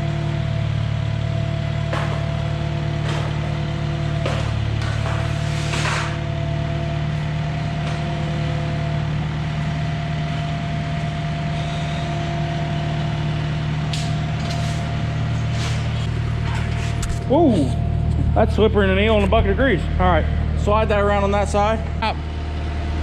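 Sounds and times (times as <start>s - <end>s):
machine engine idling: 0.0s - 23.0s.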